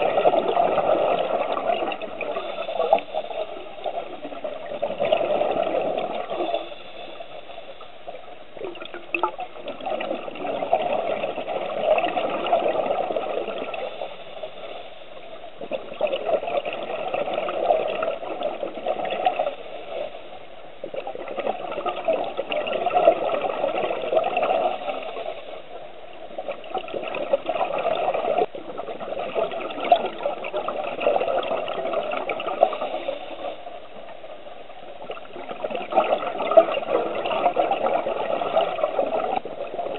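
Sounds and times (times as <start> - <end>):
underwater air bubbling: 0.0 - 39.9.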